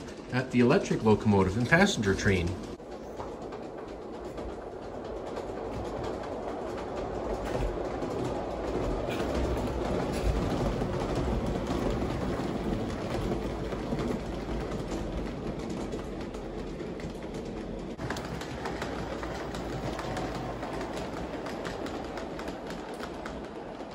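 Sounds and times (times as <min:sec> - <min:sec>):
model train wheels rumbling on rail: 0:00.0 - 0:23.9.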